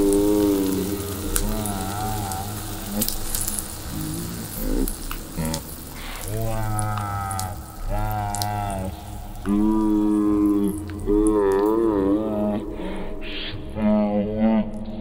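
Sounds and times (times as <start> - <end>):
egg sizzling in a pan: 0.0 - 12.0
wavering pitched moaning sounds: 0.0 - 14.6.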